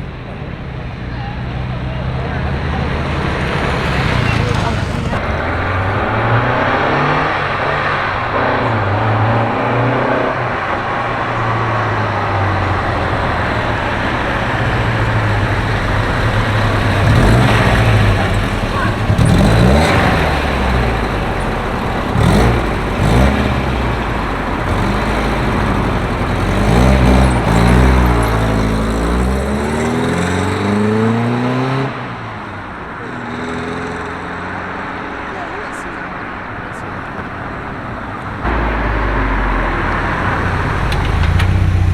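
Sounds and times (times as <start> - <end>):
car engines revving: 0.0 - 41.9.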